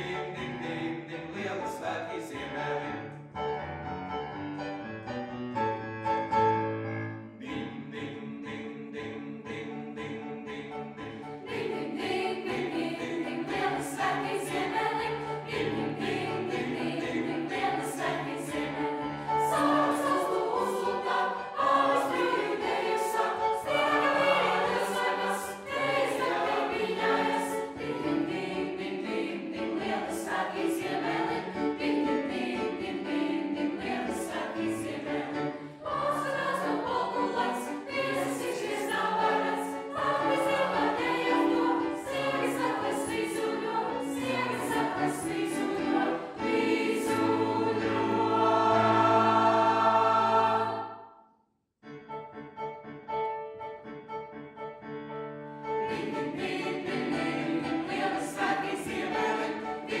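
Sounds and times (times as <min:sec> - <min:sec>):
choir singing: 0:00.0 - 0:03.2, 0:07.2 - 0:51.3, 0:55.7 - 1:00.0.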